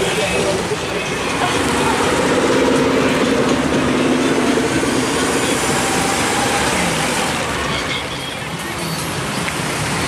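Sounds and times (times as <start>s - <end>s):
cars driving on wet road: 0.0s - 10.0s.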